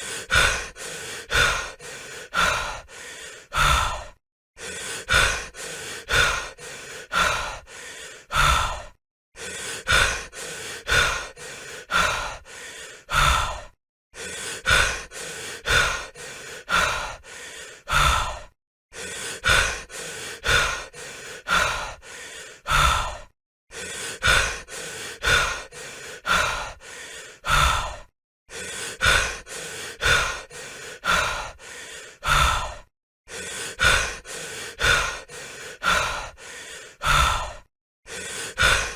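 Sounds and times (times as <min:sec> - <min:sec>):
person breathing heavily: 0:00.0 - 0:38.9.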